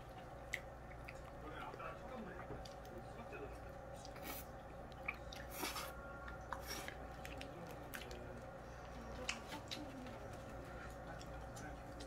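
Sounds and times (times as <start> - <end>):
chewing: 0.0 - 12.0
food rustles and clicks: 0.0 - 12.0
low room hum: 0.0 - 12.0.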